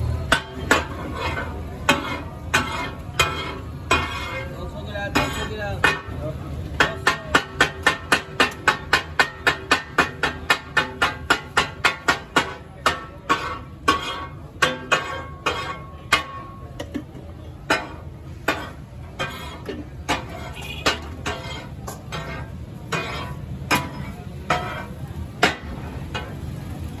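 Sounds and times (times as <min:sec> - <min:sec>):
metal spatulas clattering on griddle: 0:00.1 - 0:27.0.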